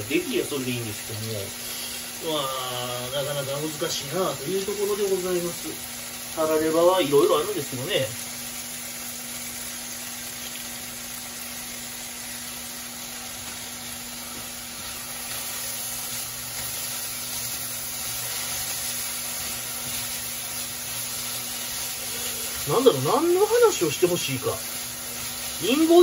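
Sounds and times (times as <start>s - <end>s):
noodles sizzling in a frying pan: 0.0s - 26.0s.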